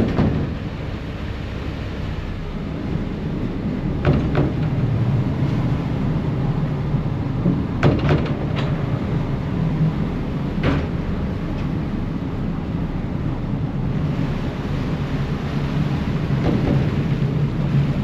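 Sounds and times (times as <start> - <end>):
ferry engine rumbling: 0.0 - 18.0.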